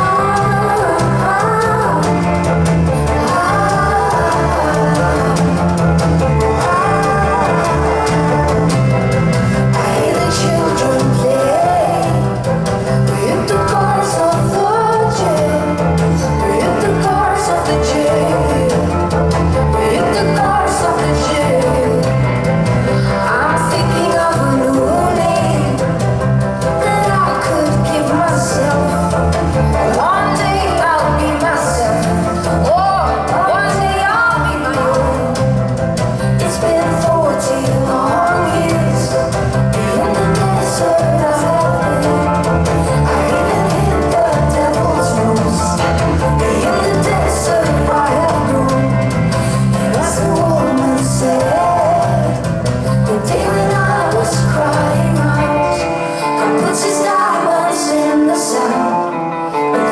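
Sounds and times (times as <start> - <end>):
repeating bass line: 0.0 - 55.4
drums: 0.0 - 59.9
electric guitar: 0.0 - 59.9
violin: 0.0 - 59.9
woman singing: 0.0 - 59.9.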